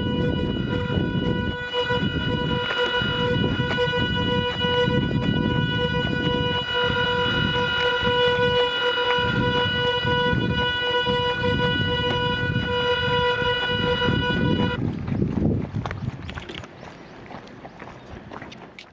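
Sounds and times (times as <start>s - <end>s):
motors buzzing whine: 0.0s - 16.8s.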